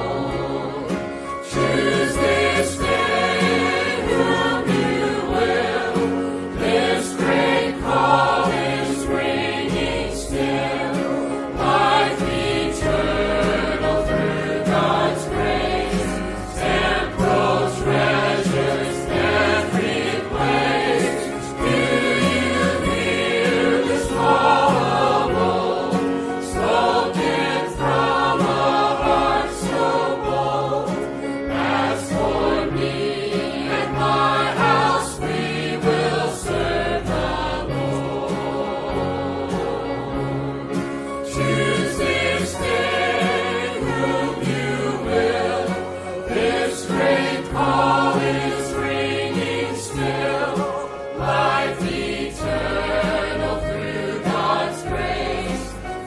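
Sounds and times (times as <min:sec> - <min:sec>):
band accompaniment: 0:00.0 - 0:56.0
choir singing gospel: 0:00.0 - 0:56.0.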